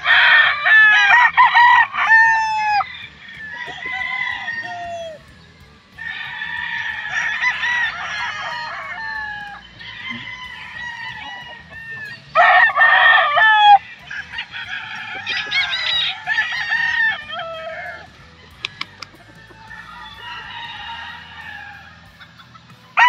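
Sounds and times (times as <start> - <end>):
roosters crowing: 0.0 - 23.0.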